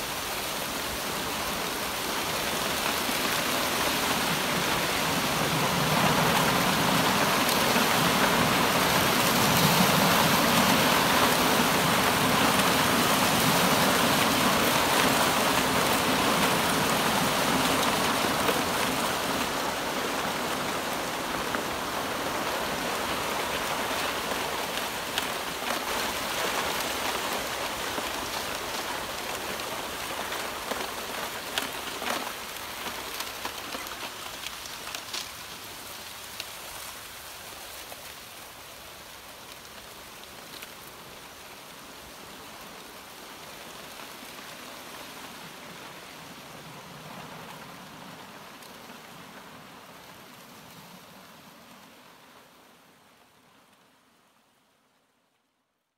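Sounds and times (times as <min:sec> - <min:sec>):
rushing water hiss: 0:00.0 - 0:53.4.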